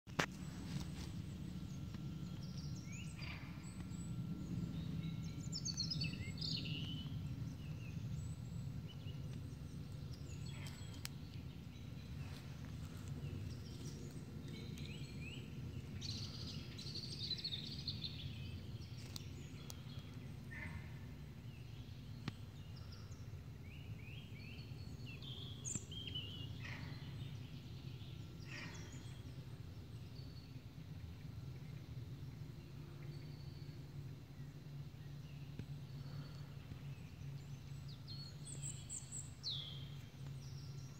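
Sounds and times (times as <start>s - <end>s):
songbirds singing: 0.1s - 40.9s.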